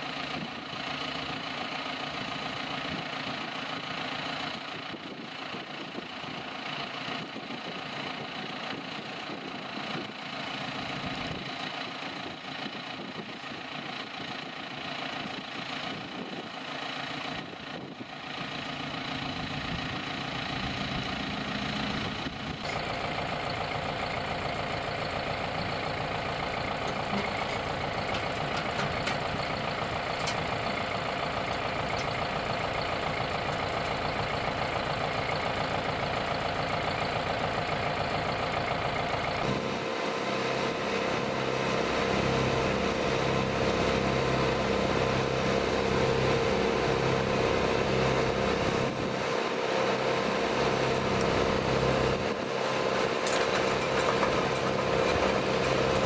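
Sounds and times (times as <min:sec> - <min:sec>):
tractor engine running: 0:00.0 - 0:56.0
wood chipper drone: 0:00.0 - 0:56.0.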